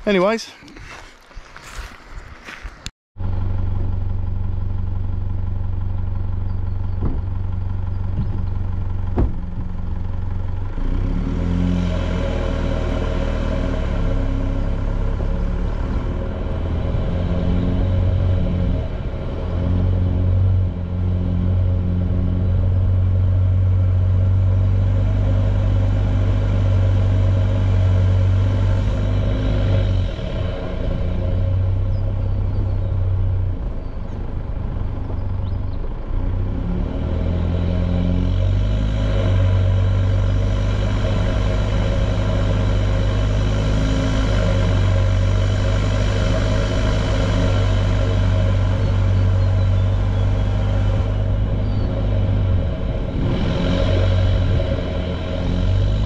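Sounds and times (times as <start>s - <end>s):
vehicle engine droning: 1.6s - 56.0s.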